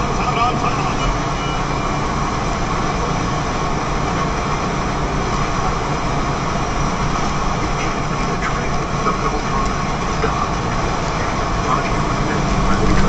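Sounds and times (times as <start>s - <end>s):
engine and wind rumble: 0.0s - 13.0s.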